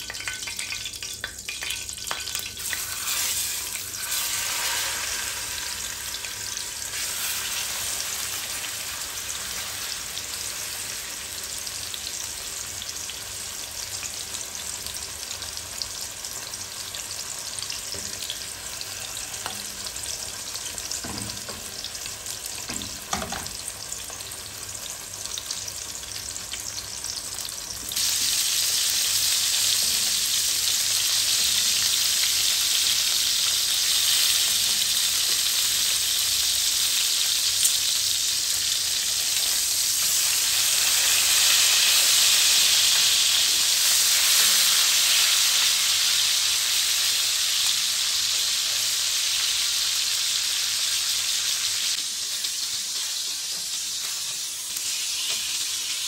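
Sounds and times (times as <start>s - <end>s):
meat and garlic sizzling in oil: 0.0s - 56.0s.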